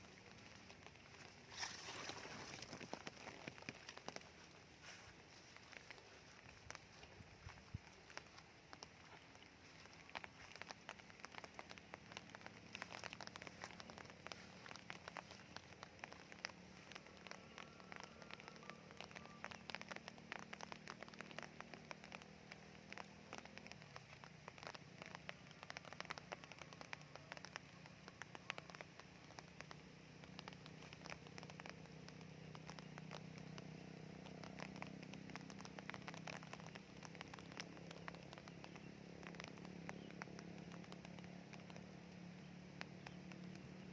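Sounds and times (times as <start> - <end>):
soft rain pattering: 0.0 - 43.9.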